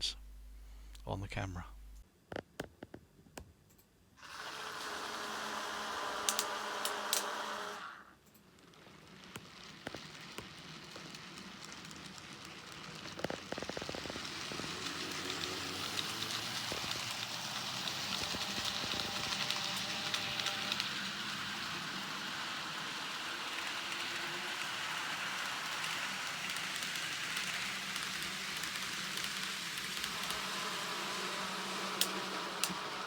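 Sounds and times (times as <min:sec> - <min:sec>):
model train motor hum: 0:04.2 - 0:33.0
wheels rolling on rails: 0:04.2 - 0:33.0.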